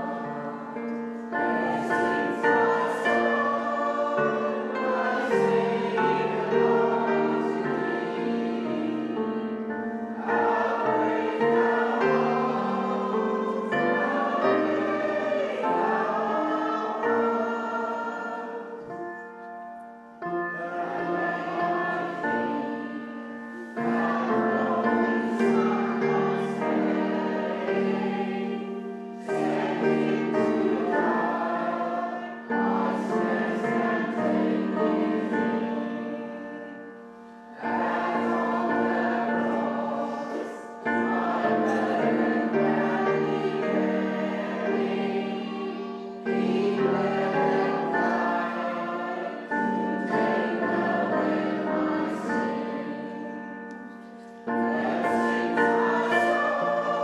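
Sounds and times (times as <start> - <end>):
congregation singing a hymn: 0.0 - 57.0
keyboard accompaniment: 0.0 - 57.0.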